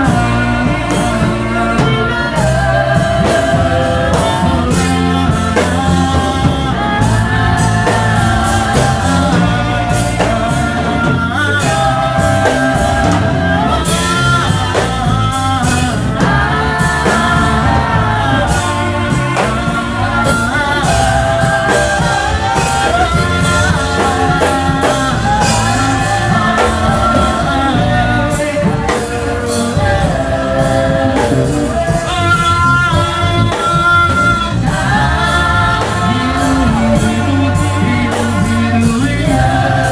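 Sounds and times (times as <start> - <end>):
band playing with steady beat: 0.0 - 39.9
voices singing: 0.0 - 39.9.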